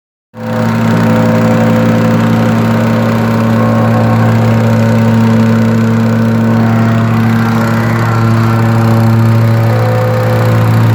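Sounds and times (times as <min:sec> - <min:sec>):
engine droning steadily: 0:00.4 - 0:10.9.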